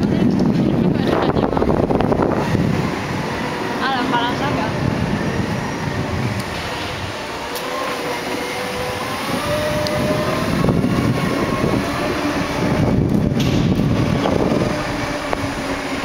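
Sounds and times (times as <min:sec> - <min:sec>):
electric motor whine: 0:00.0 - 0:16.0
wheels rumbling on concrete: 0:00.0 - 0:16.0.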